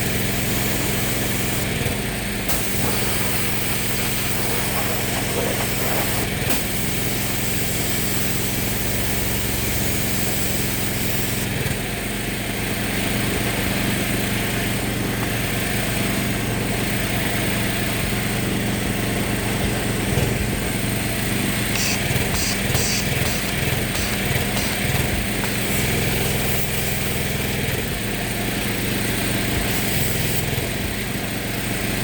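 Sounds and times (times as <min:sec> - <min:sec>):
machine motor running: 0:00.0 - 0:12.0, 0:13.1 - 0:32.0.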